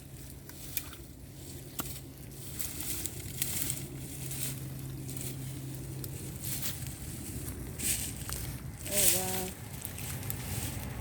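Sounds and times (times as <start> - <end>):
mulch and vines rustling and crunching: 0.0 - 11.0
steady low hum: 0.0 - 11.0.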